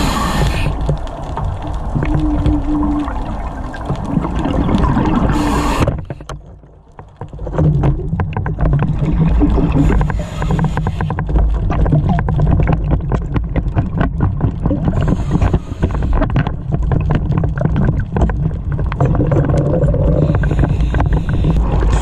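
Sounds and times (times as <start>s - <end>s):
crackling clicks: 0.0s - 22.0s
low underwater rumble: 0.0s - 22.0s.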